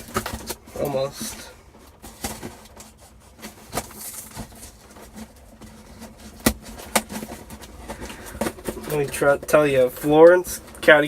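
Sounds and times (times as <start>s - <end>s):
cardboard box scraping and rustling: 0.0s - 10.3s.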